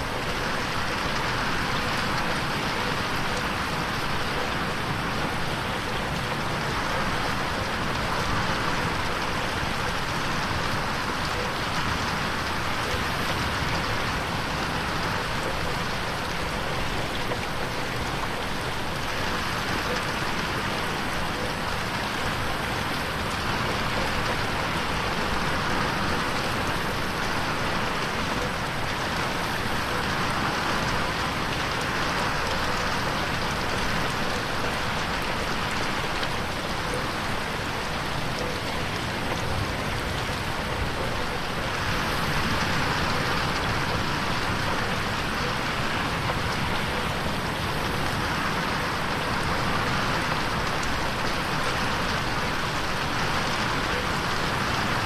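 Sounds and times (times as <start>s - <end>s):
rain on window pane: 0.0s - 55.0s.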